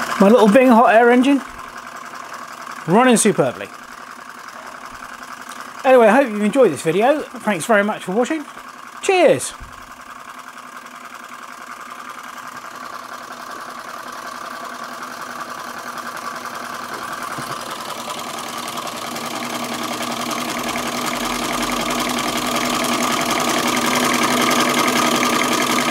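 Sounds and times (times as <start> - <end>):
hot air engine clattering: 0.0 - 25.9.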